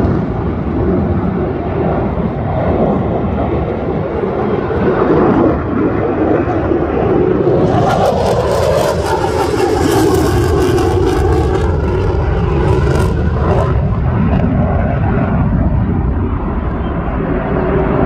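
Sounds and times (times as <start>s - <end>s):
distant jet rumble: 0.0s - 18.0s.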